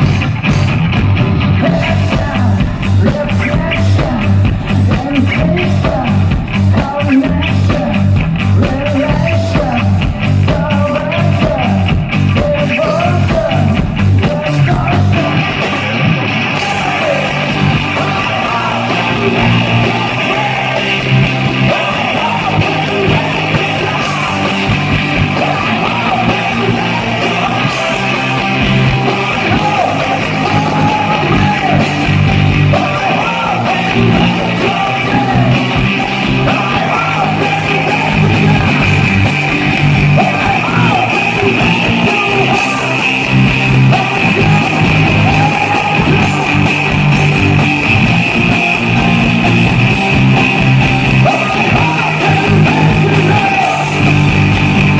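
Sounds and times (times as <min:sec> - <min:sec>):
electric guitar: 0:00.0 - 0:54.9
live rock band playing: 0:00.0 - 0:54.9
person singing: 0:01.6 - 0:54.9.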